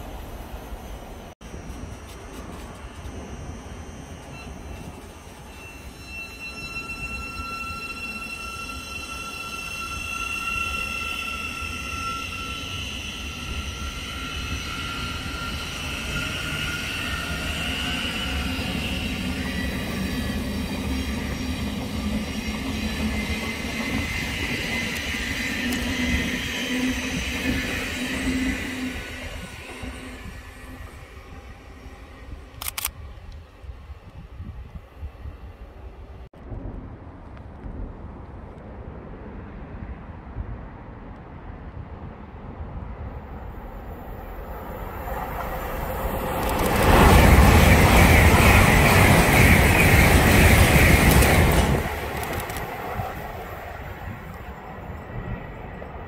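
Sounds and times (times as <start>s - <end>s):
train running through station: 0.0s - 36.4s, 38.5s - 56.0s.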